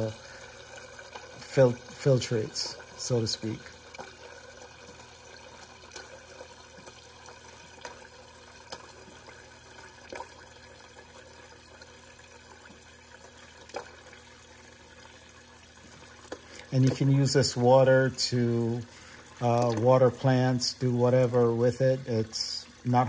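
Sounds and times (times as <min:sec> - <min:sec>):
water running into glass carafe: 0:00.0 - 0:23.0.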